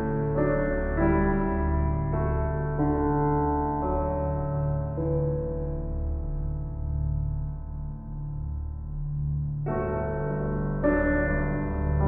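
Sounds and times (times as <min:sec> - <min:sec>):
soft electric piano chords: 0:00.0 - 0:12.0.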